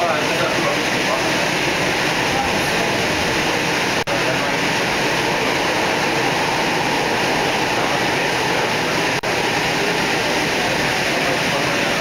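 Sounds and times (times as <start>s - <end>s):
train rushing noise: 0.0s - 12.0s.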